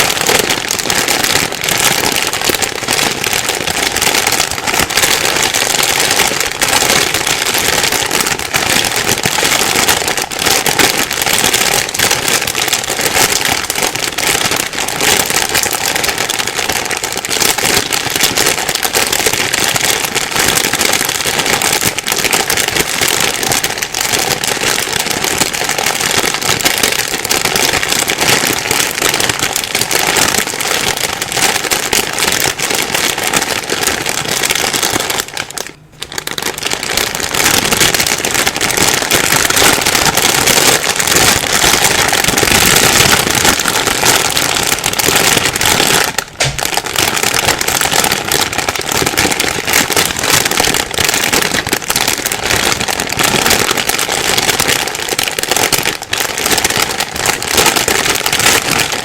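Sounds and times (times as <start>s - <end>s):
plastic bag rustling: 0.0s - 59.0s.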